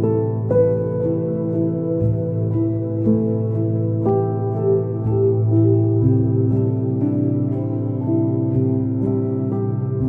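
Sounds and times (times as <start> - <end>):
steady low drone: 0.0 - 10.0.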